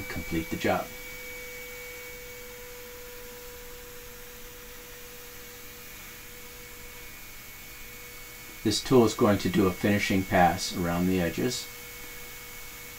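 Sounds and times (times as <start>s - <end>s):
router spindle whining: 0.0s - 12.9s.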